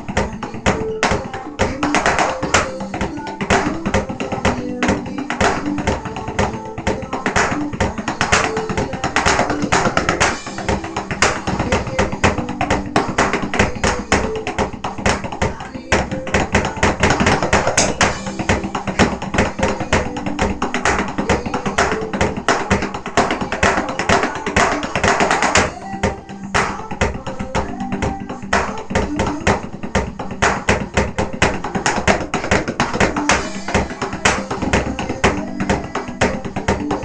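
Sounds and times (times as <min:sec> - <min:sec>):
recorded music: 0:00.0 - 0:37.0
sticks hitting electronic drum pads: 0:00.0 - 0:37.0.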